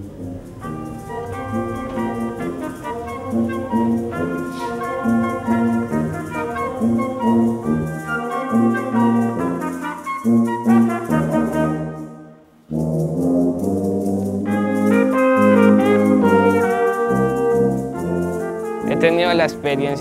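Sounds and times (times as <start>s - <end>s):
brass ensemble playing chords: 0.0s - 20.0s.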